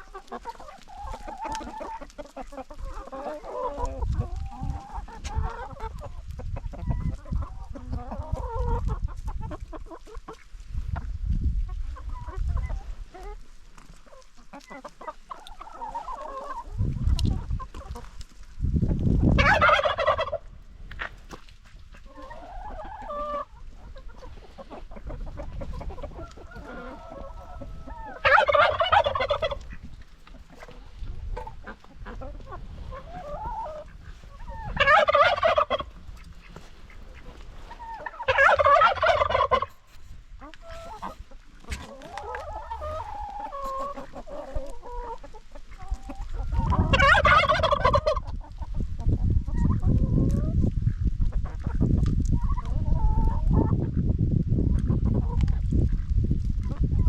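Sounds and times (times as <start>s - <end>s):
turkey gobbling: 0.0s - 11.0s, 11.9s - 18.2s, 19.3s - 48.9s
chickens clucking quietly: 0.0s - 57.0s.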